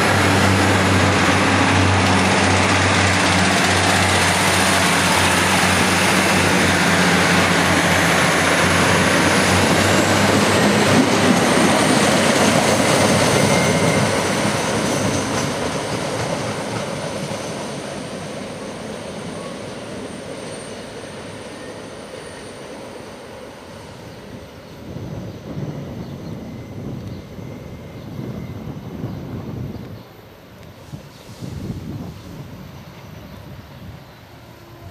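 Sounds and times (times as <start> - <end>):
diesel train engine hum: 0.0 - 34.9
wheels rumbling on rails: 0.0 - 34.9.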